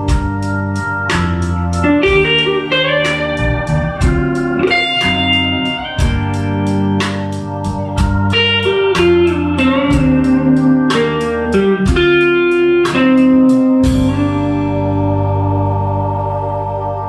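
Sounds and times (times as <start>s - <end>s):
sliding guitar notes: 0.0s - 17.0s
sustained backing chords: 0.0s - 17.0s.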